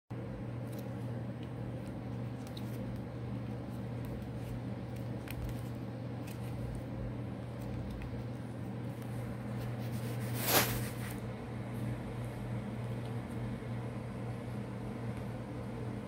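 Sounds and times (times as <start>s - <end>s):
low electrical hum: 0.1s - 16.0s.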